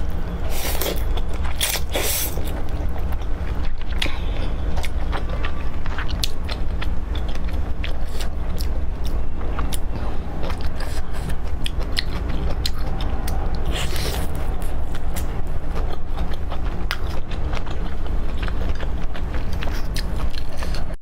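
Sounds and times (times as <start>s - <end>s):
chewing and crunching: 0.0s - 21.0s
steady low hum: 0.0s - 21.0s.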